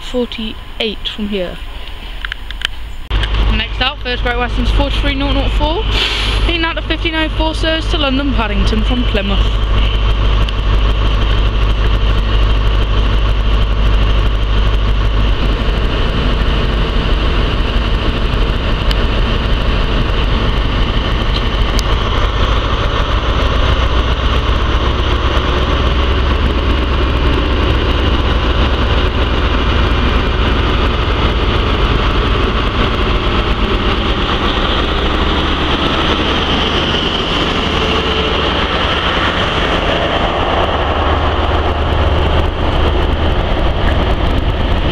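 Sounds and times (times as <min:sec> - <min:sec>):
diesel locomotive engine running: 0:00.0 - 0:44.9.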